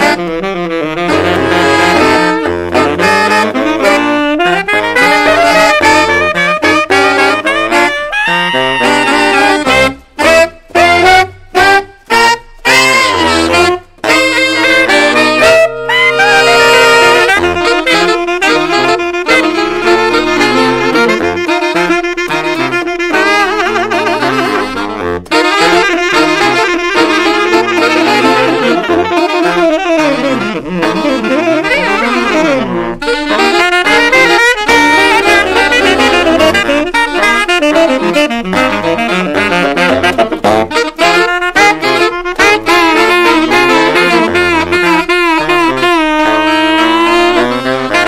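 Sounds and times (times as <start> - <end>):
saxophone quartet playing jazz: 0.0 - 48.0.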